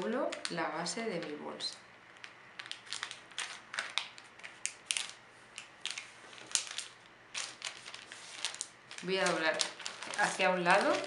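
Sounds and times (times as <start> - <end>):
metallic wrapping paper crinkling: 1.2 - 11.0.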